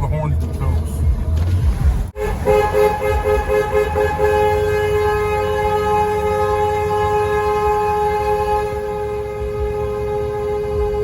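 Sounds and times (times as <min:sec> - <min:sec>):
car horn honking in tunnel: 0:02.2 - 0:11.0.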